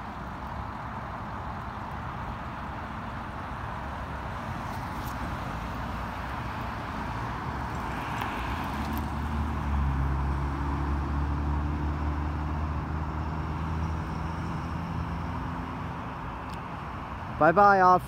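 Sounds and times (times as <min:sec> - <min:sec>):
road noise hiss: 0:00.0 - 0:18.0
vehicle engine humming: 0:00.0 - 0:18.0.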